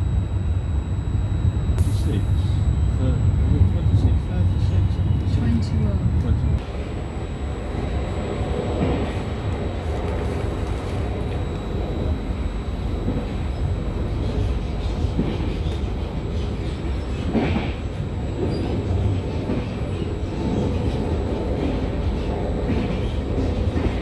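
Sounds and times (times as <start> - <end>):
train wheels rumbling on rail: 1.0 - 24.0.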